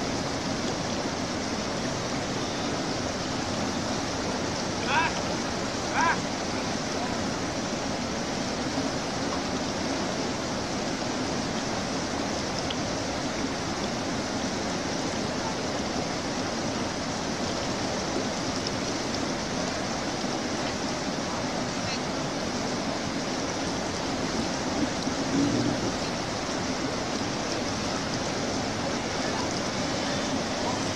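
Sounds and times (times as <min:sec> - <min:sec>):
river rushing over rocks: 0:00.0 - 0:30.9.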